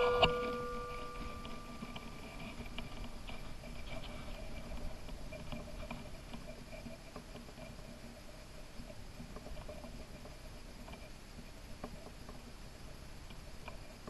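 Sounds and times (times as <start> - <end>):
faint ticks: 0.1 - 14.0.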